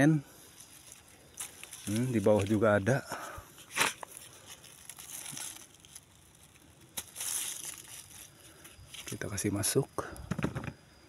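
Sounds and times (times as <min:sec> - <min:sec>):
dry leaves rustling: 0:00.2 - 0:09.6.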